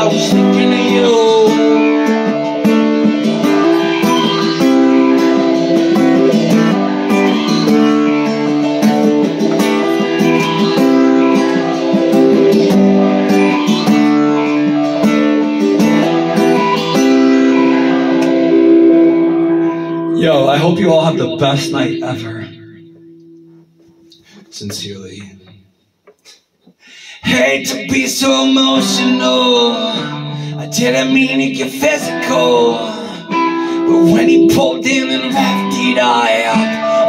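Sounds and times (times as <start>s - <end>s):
acoustic guitar strumming: 0.0s - 25.0s, 27.3s - 37.0s.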